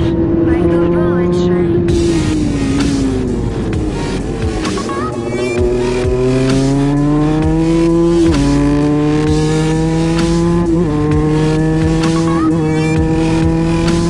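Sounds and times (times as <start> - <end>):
motorbike engine accelerating: 0.0 - 14.0.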